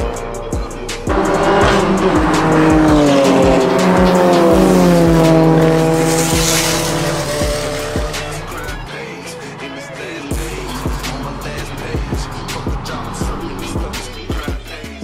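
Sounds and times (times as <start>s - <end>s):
background music with steady beat: 0.0s - 15.0s
race car engine revving: 0.0s - 15.0s.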